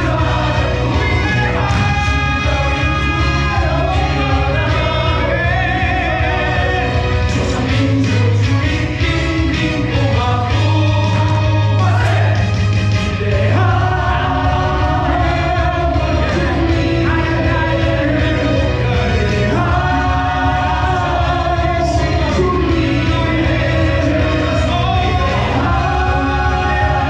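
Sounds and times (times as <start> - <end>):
men singing together: 0.0 - 27.0.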